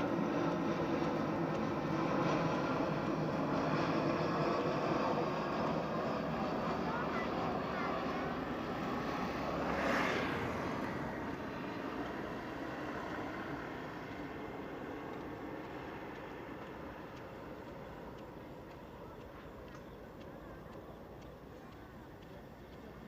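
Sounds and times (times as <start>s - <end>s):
aircraft passing: 0.0s - 23.0s.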